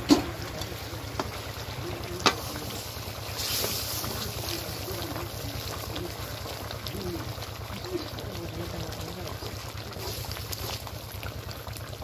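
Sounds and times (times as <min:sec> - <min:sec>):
ladle stirring boiling curry: 0:00.0 - 0:12.0.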